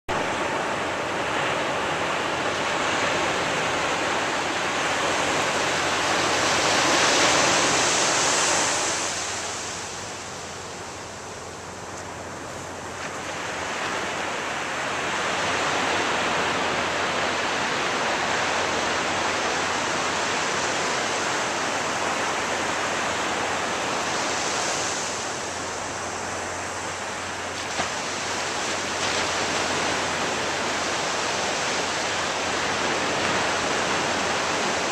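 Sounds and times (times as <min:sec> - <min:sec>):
ocean waves breaking: 0:00.1 - 0:34.9.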